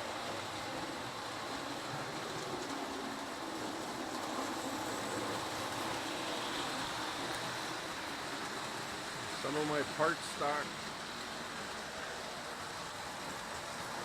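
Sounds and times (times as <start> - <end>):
model trains whirring on track: 0.0 - 14.0.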